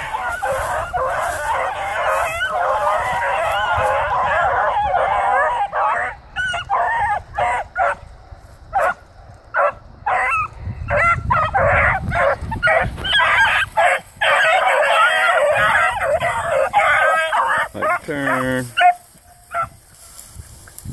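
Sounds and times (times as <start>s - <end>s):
hounds baying: 0.0s - 8.1s, 8.7s - 19.8s.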